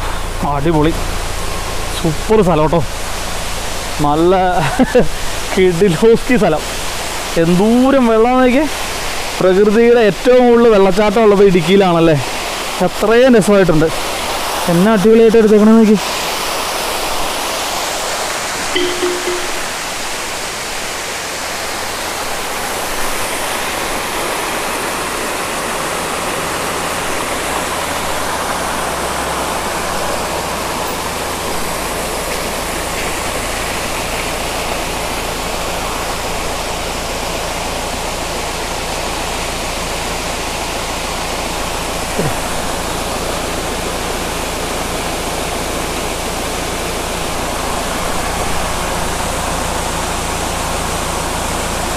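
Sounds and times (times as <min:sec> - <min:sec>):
waterfall rushing over rocks: 0:00.0 - 0:51.9.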